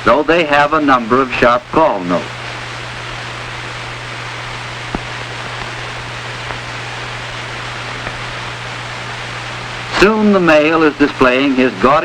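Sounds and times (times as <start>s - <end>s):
film soundtrack hiss: 0.0s - 12.0s
low mains hum: 0.0s - 12.0s.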